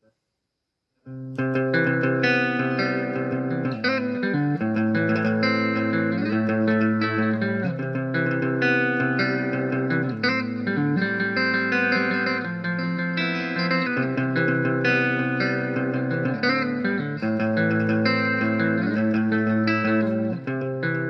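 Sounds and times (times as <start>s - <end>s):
guitar playing a tune: 1.1s - 21.0s.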